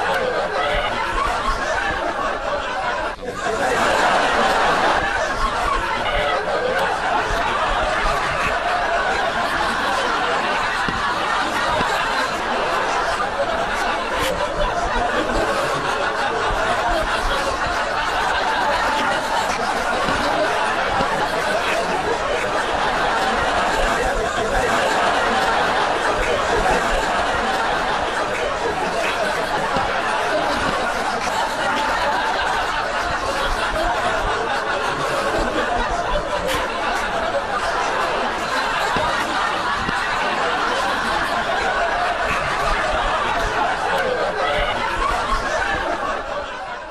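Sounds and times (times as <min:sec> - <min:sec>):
crowd laughing: 0:00.0 - 0:46.9.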